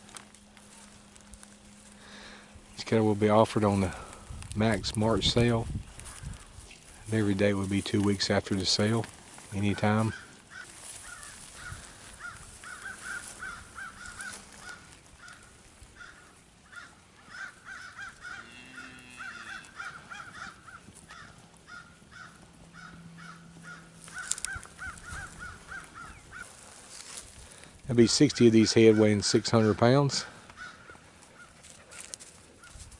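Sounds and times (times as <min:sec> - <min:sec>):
faint low steady hum: 0:00.0 - 0:28.0
birds calling: 0:05.3 - 0:32.9.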